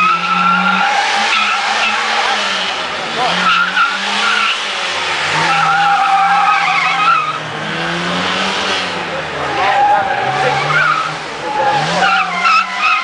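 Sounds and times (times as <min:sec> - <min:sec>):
tyres squealing: 0:00.0 - 0:07.5, 0:08.1 - 0:13.0
car engine revving: 0:00.0 - 0:13.0.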